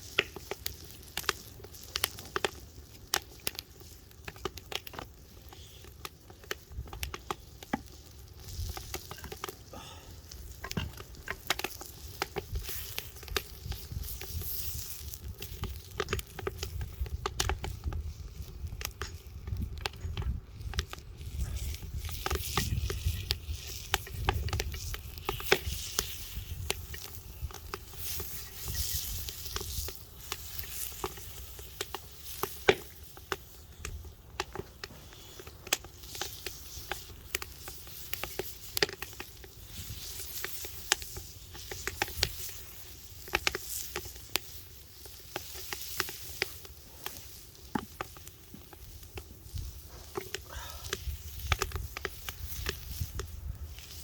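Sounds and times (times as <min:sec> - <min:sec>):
sizzling hiss: 0:00.0 - 0:54.0
wood fire crackling and popping: 0:00.0 - 0:54.0.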